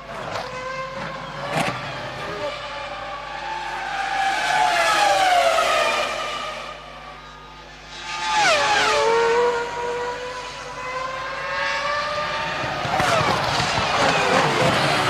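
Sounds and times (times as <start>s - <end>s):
racing car engine accelerating: 0.0s - 15.0s
racing car engines screaming: 0.0s - 15.0s.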